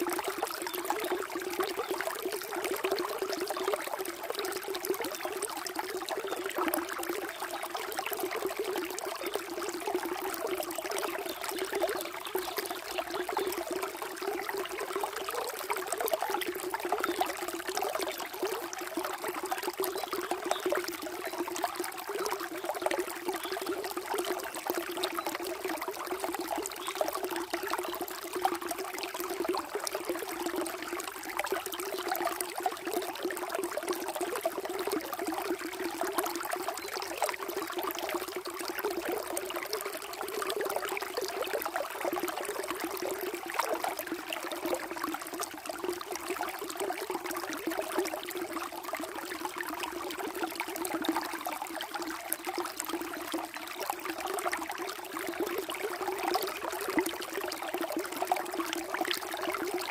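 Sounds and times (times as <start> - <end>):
water running and trickling: 0.2 - 59.9.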